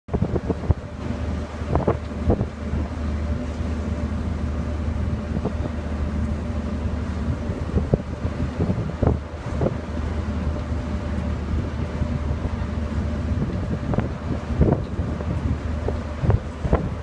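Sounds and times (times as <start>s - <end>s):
ship engine humming: 0.1s - 17.0s
wind buffeting microphone: 0.1s - 17.0s.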